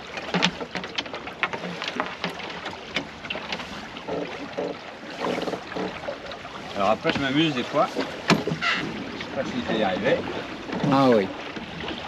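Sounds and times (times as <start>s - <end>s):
water splashing against hull: 0.0s - 12.0s.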